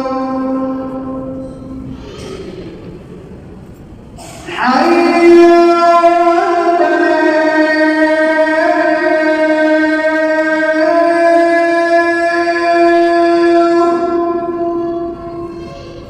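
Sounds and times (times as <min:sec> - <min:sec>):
man singing call to prayer: 0:00.0 - 0:01.8, 0:04.4 - 0:16.0.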